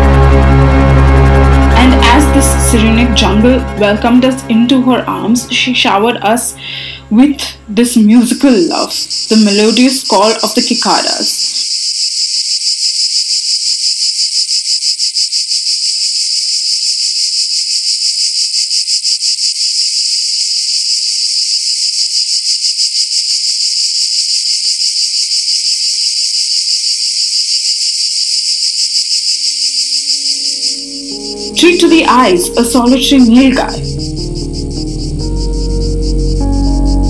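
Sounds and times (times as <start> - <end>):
cicadas buzzing: 0.0 - 37.0.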